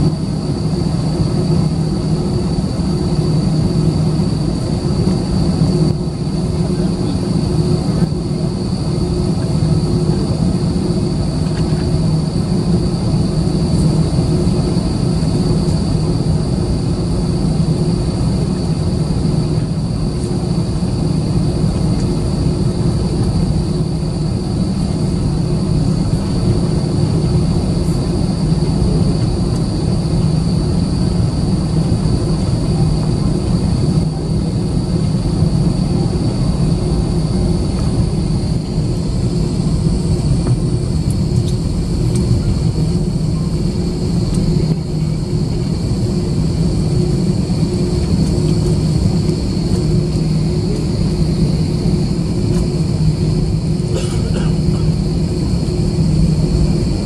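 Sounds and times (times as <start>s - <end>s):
high-pitched engine whine: 0.0s - 57.0s
jet engines low hum: 0.0s - 57.0s.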